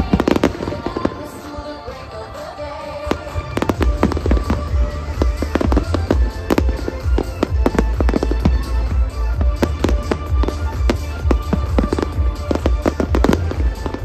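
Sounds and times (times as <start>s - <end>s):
fireworks bangs: 0.0s - 14.0s
music playing: 0.0s - 14.0s.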